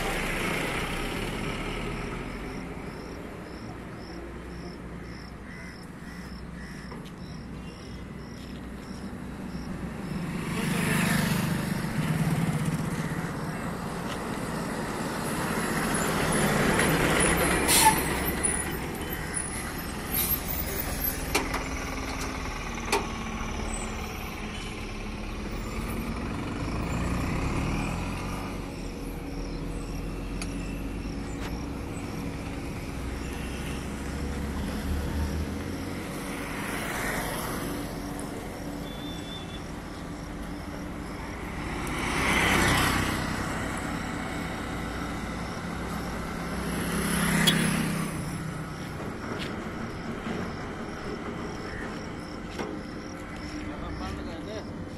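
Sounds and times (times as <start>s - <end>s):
vehicles passing: 0.0s - 54.9s.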